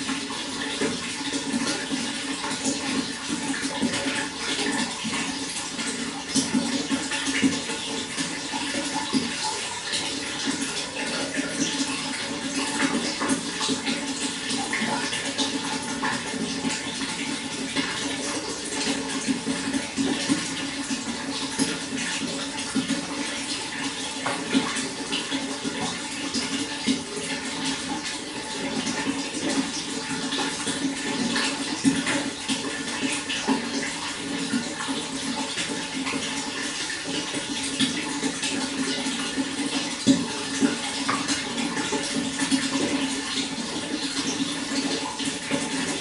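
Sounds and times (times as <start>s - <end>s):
running water splashing and gurgling: 0.0s - 46.0s.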